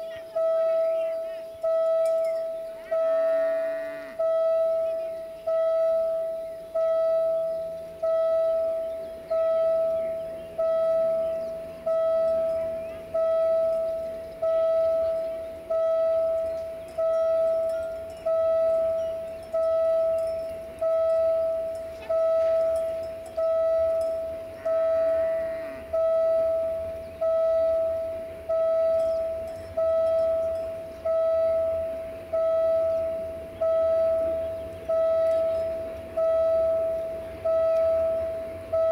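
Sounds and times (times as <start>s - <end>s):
level crossing warning bell ringing: 0.0s - 38.9s.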